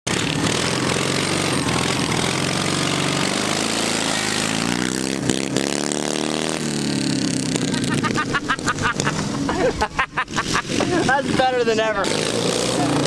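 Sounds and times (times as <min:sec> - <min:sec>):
lawnmower engine revving: 0:00.1 - 0:13.0.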